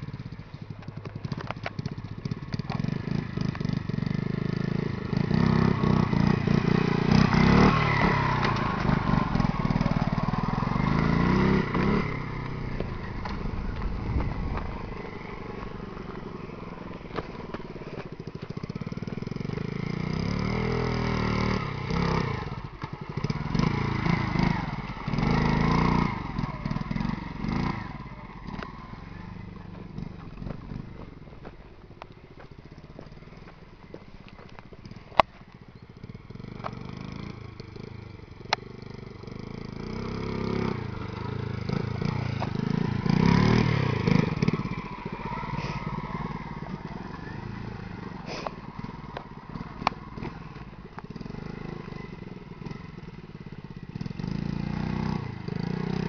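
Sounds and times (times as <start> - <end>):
minibike engine revving: 0.0 - 56.0.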